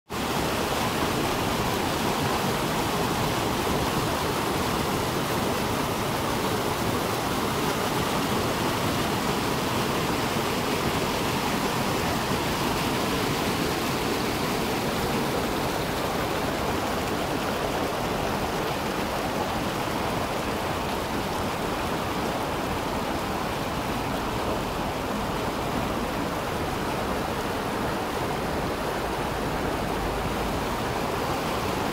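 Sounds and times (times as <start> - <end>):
mountain stream rushing over boulders: 0.1 - 31.9.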